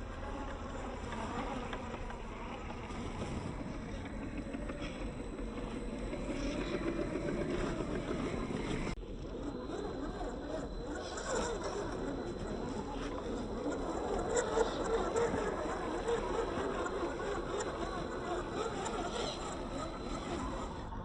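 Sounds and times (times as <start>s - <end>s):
electric motor buzzing whine: 0.0s - 21.0s.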